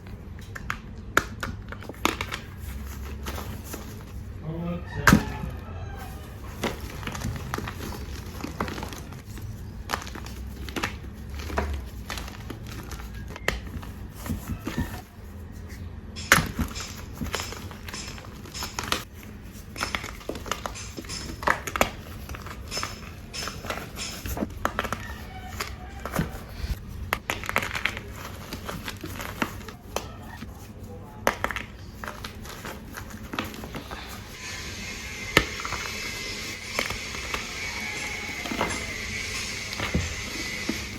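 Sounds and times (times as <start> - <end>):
chalk crunching: 5.2 - 16.0, 16.7 - 40.9.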